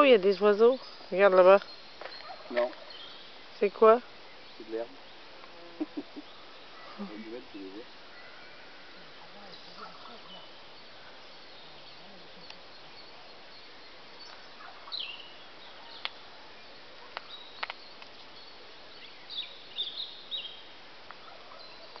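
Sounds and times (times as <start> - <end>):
birds twittering: 0.0 - 22.0
outdoor background hiss: 0.0 - 22.0.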